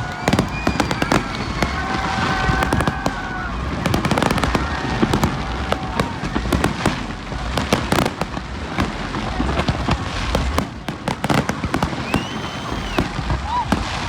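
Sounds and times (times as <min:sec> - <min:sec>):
fireworks bangs and crackles: 0:00.0 - 0:14.0
low rumble of explosions: 0:00.0 - 0:14.0.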